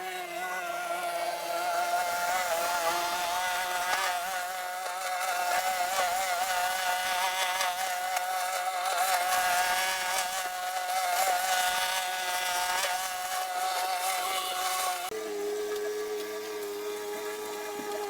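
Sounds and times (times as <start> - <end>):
small engine whining: 0.0 - 18.0.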